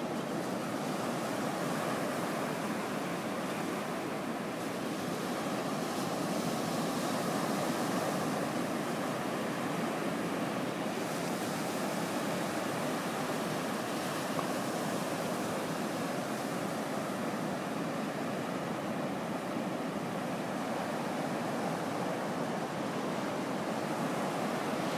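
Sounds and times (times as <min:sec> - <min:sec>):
ocean surf on beach: 0:00.0 - 0:24.9.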